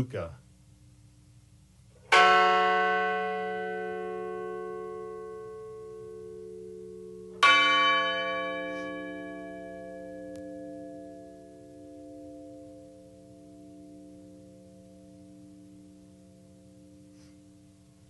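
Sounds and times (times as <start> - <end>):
large bell tolling: 2.1 - 17.1.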